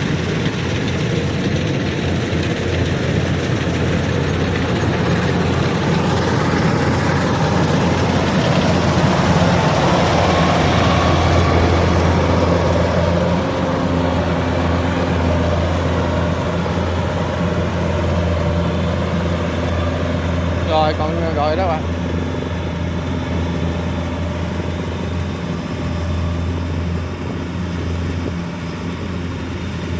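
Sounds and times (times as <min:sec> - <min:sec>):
combine harvester engine droning: 0:00.0 - 0:29.9.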